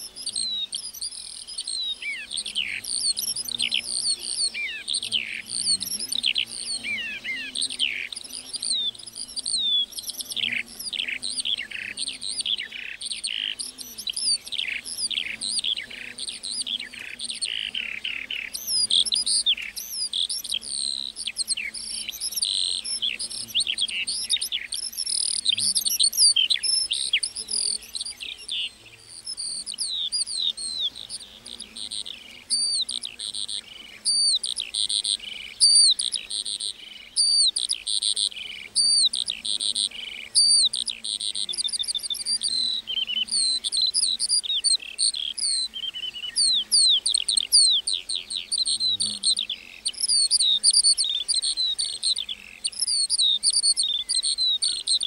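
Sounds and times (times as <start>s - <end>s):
lark singing: 0.0s - 55.0s.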